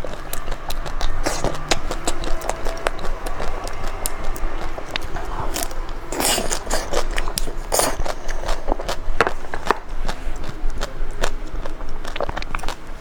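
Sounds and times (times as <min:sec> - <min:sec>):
chewing crackles: 0:00.0 - 0:13.0
chocolate shell crunching: 0:00.0 - 0:13.0.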